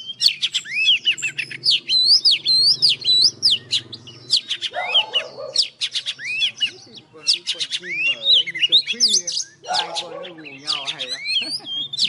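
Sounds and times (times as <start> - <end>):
birds singing sharp whistled notes: 0.0 - 12.0.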